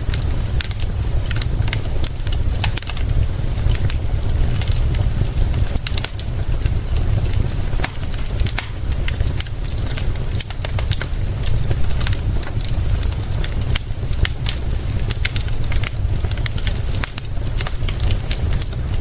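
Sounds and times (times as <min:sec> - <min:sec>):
deep rumble: 0:00.0 - 0:19.0
fire crackling and popping: 0:00.0 - 0:19.0
rain hissing: 0:00.0 - 0:19.0.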